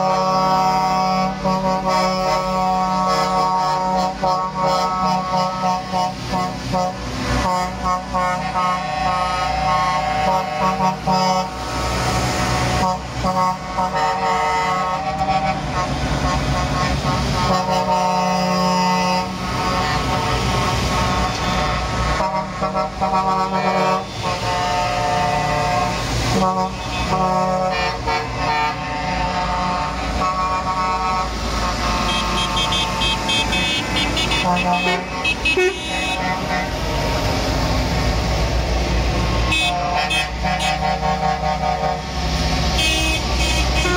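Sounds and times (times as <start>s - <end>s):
heavy truck engines running: 0.0s - 43.9s
truck air horns tooting: 0.0s - 43.9s
truck passing by: 0.0s - 43.9s.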